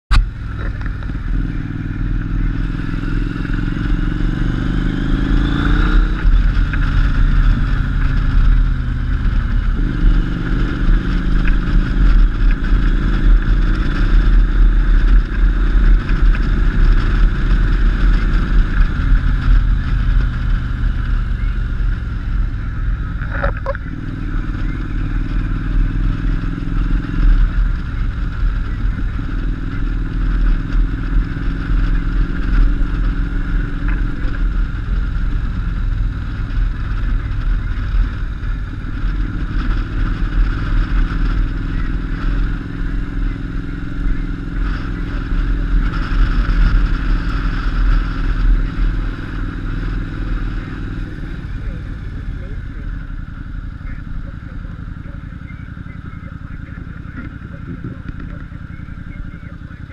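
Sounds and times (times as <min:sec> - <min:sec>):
motorcycle engine pulling away: 0:00.2 - 0:59.9.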